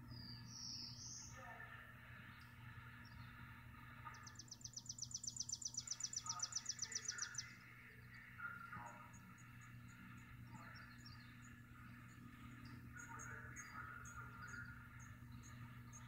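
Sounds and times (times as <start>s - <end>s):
faint bird chirps: 0.0s - 16.0s
songbird trill: 0.0s - 16.0s.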